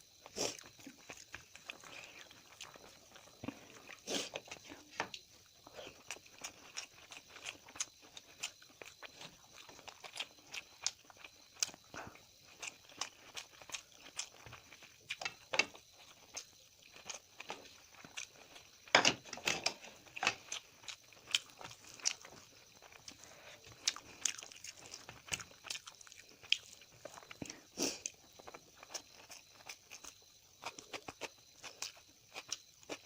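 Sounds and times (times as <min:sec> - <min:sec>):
person chewing food: 0:00.1 - 0:33.0.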